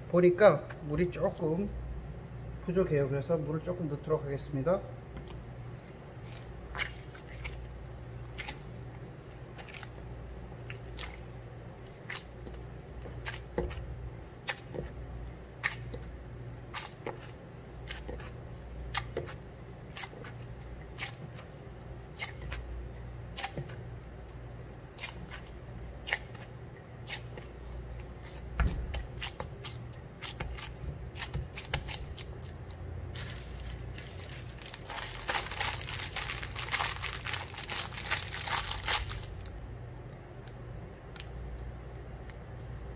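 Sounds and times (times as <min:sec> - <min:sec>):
steady low hum: 0:00.0 - 0:42.9
dough squishing in a bowl: 0:05.0 - 0:42.9.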